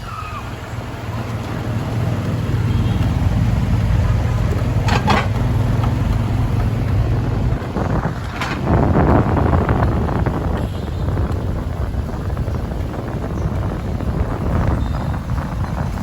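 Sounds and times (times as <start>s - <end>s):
small motorbike engine droning: 0.0s - 16.0s
street traffic: 0.0s - 16.0s
wind rushing over microphone: 0.0s - 16.0s.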